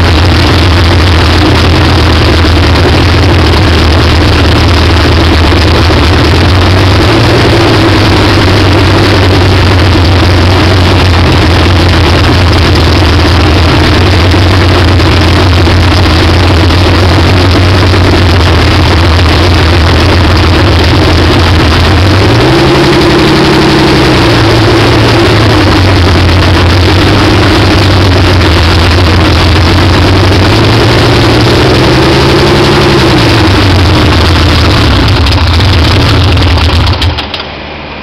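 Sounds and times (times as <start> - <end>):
car engine revving: 0.0 - 37.4.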